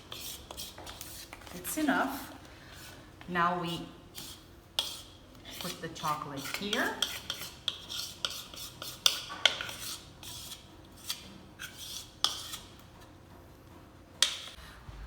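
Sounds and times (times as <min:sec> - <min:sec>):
spoon scraping a mixing bowl: 0:00.0 - 0:13.2.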